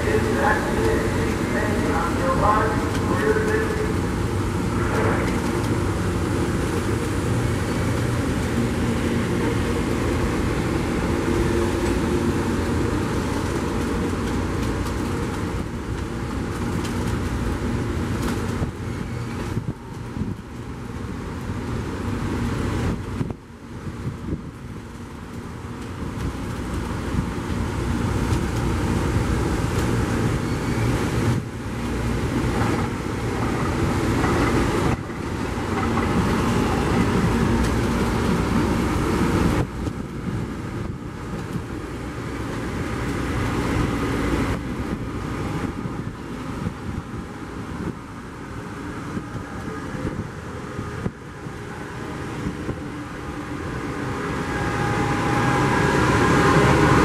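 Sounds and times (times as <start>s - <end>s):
train engine and rolling noise: 0.0s - 57.0s.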